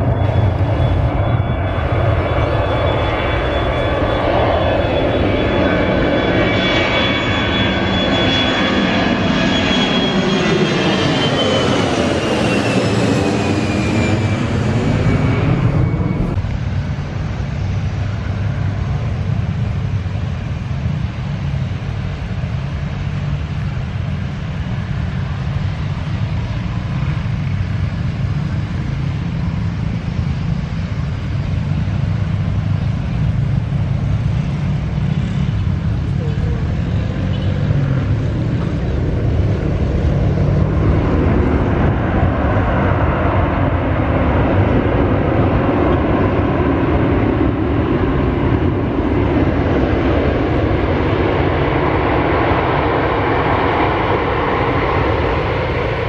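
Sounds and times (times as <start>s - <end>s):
jet airliner passing: 0.0s - 56.0s
steady low rumble: 0.0s - 56.0s.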